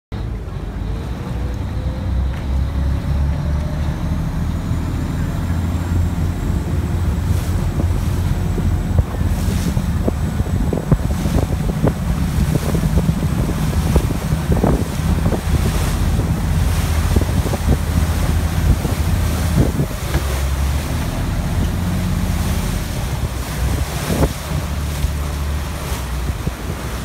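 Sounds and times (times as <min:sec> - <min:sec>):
boat engine rumbling: 0:00.1 - 0:27.0
water rushing along hull: 0:00.2 - 0:27.0
wind buffeting microphone: 0:01.0 - 0:27.0.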